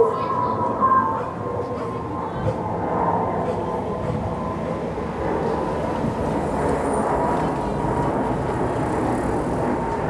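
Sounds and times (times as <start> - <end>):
jet engine whine: 0.0 - 10.0
jet plane passing overhead: 0.0 - 10.0.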